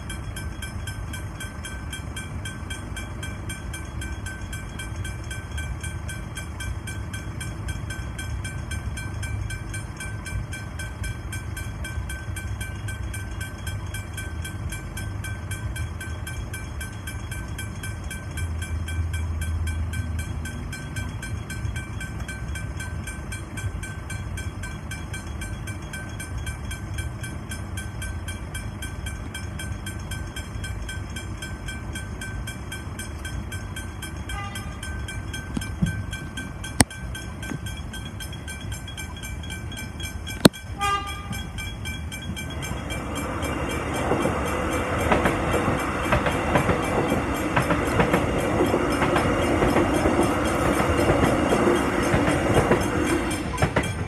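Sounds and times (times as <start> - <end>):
level crossing warning bells: 0.0 - 54.0
road traffic: 0.0 - 54.0.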